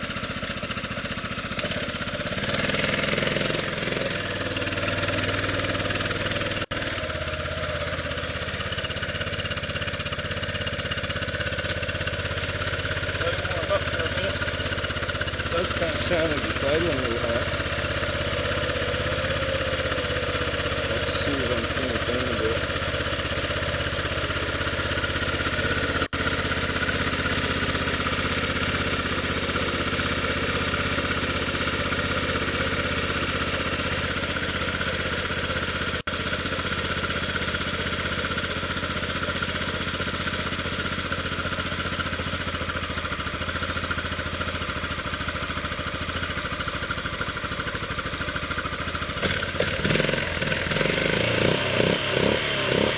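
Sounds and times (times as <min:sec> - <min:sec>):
atv engine idling: 0:00.0 - 0:52.9.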